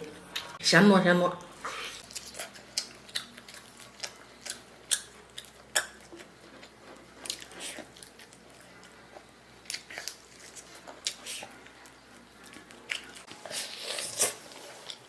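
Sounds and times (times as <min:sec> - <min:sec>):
person chewing food: 0:01.7 - 0:15.0.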